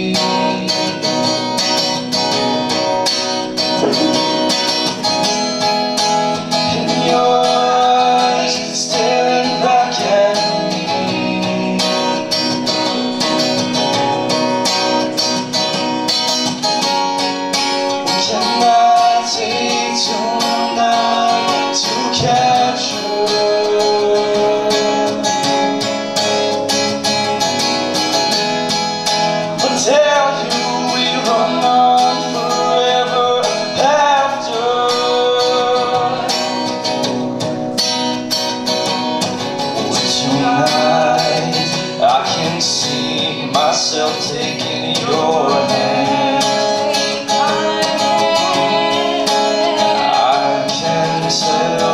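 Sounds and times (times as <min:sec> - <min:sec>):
acoustic guitar playing: 0:00.0 - 0:51.9.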